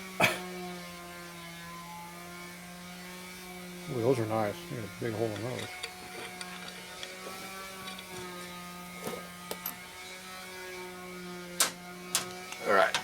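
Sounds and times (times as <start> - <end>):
steady buzzing hum: 1.9 - 13.0.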